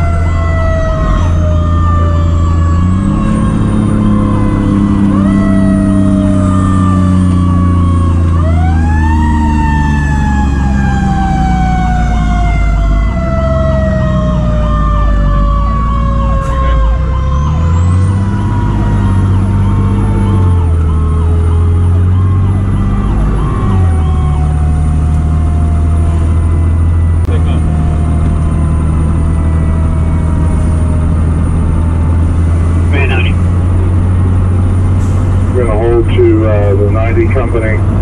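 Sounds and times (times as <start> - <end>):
siren winding up and falling: 0.0 - 31.6
rapidly cycling siren: 0.0 - 34.6
truck engine and road noise: 0.0 - 38.0.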